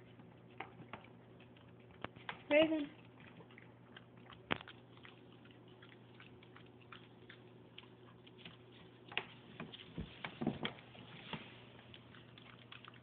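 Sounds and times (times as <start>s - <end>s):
dog licking and smacking: 0.0s - 10.3s, 11.1s - 13.0s.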